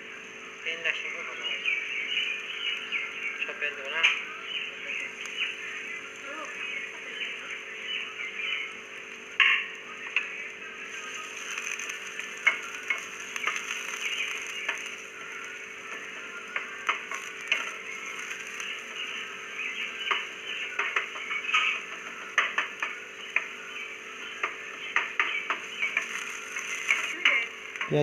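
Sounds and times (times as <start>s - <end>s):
onions sizzling in oil: 1.5s - 28.0s.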